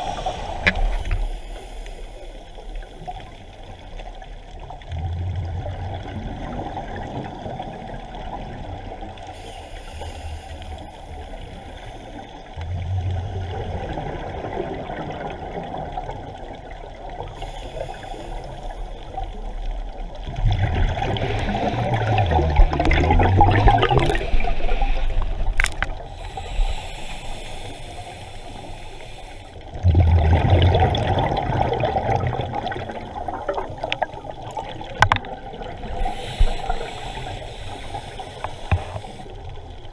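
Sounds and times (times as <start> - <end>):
exhaled bubbles gurgling: 0.0 - 9.4, 10.7 - 28.7, 29.6 - 39.9
steady underwater hiss: 0.0 - 39.9.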